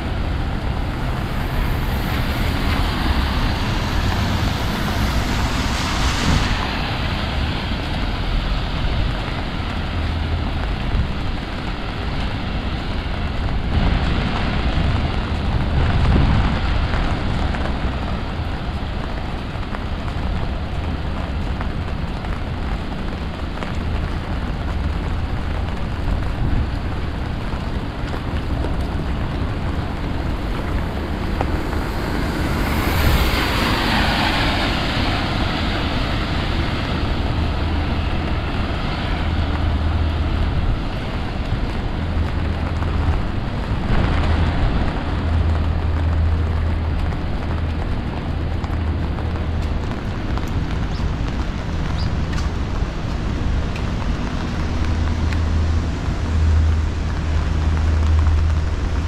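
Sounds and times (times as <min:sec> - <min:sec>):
heavy rain hissing: 0:00.0 - 0:59.0
wind buffeting microphone: 0:00.0 - 0:59.0.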